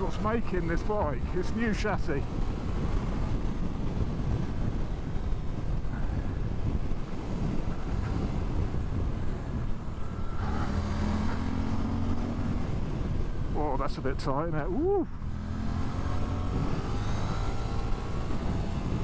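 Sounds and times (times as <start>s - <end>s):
wind buffeting microphone: 0.0s - 19.0s
motorcycle engine: 2.3s - 13.6s, 15.1s - 19.0s.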